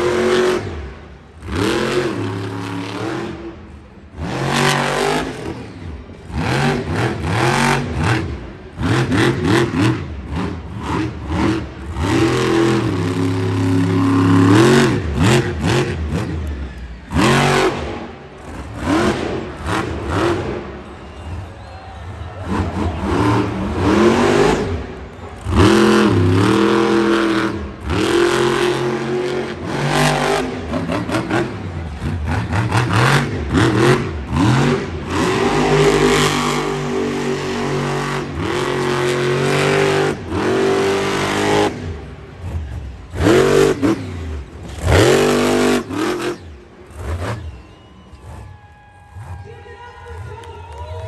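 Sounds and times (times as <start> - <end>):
truck engine revving hard: 0.0 - 48.5.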